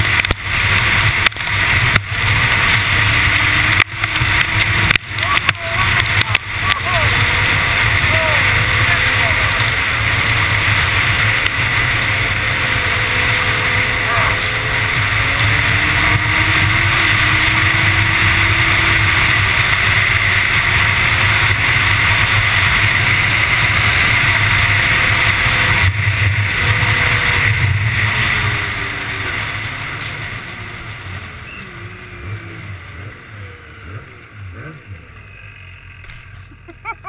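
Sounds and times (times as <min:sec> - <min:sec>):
snowmobile engine at high speed: 0:00.0 - 0:37.0.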